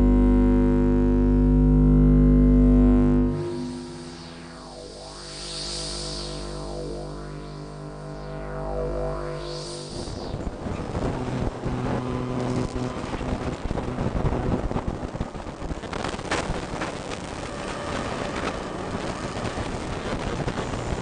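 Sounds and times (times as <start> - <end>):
electromagnetic crackling buzzing hiss: 0.0 - 21.0
low mains hum: 0.0 - 21.0.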